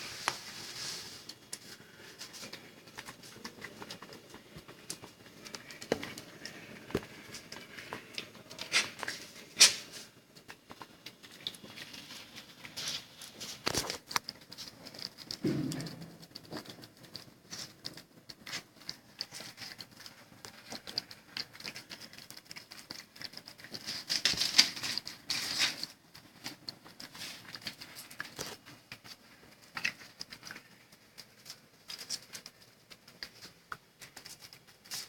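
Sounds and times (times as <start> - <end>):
pet chewing dry kibble: 0.2 - 35.0.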